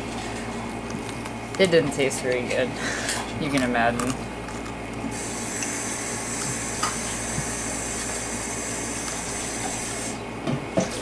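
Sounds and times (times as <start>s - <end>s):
tap running: 0.1s - 11.0s.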